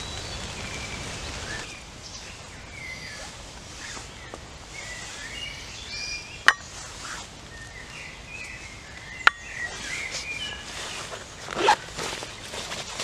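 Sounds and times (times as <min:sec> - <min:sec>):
small birds chirping: 0:00.0 - 0:12.6
steady outdoor hiss: 0:00.0 - 0:13.0.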